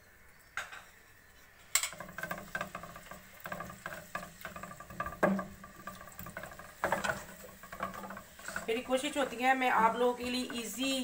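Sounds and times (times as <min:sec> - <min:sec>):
spices sizzling in hot oil: 0:00.0 - 0:11.0
wooden spoon stirring: 0:00.9 - 0:11.0.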